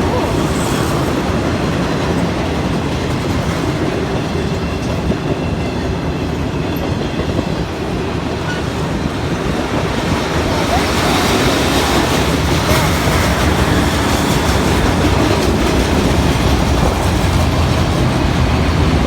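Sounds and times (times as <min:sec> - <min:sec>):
train cars rumbling past: 0:00.0 - 0:19.0.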